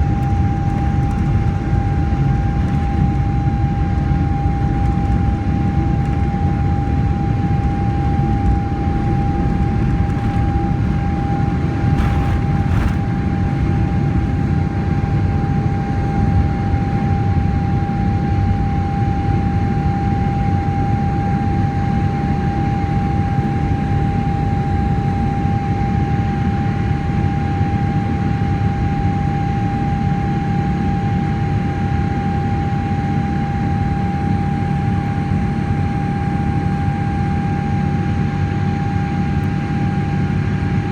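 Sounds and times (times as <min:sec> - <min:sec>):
airplane cabin engine rumble: 0:00.0 - 0:40.9
constant whine: 0:00.0 - 0:40.9.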